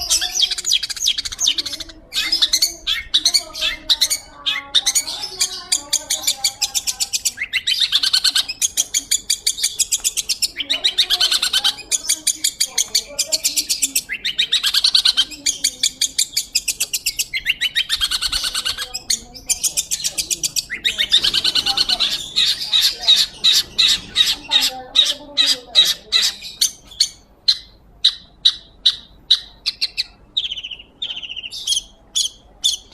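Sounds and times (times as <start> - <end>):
bird chattering song: 0.0 - 32.9.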